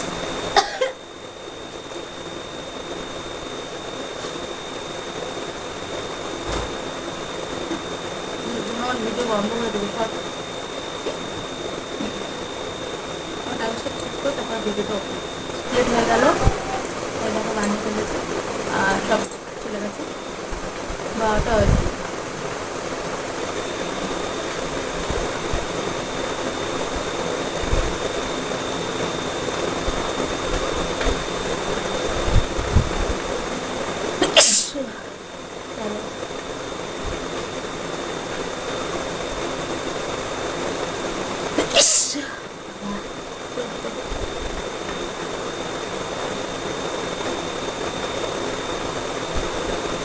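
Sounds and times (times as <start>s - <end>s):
faint high whine: 0.0s - 50.0s
steady hiss: 0.0s - 50.0s
steady rushing noise: 1.2s - 50.0s.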